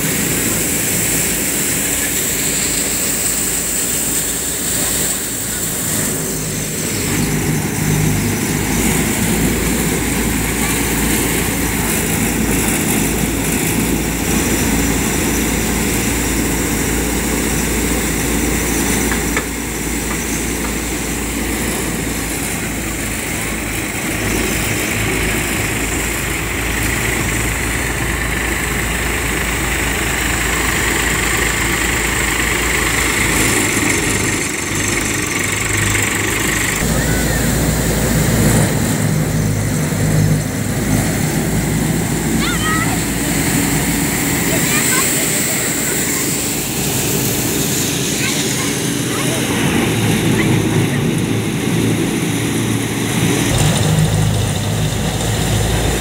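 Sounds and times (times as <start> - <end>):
threshing machine running: 0.0 - 56.0
tractor engine drone: 0.0 - 56.0.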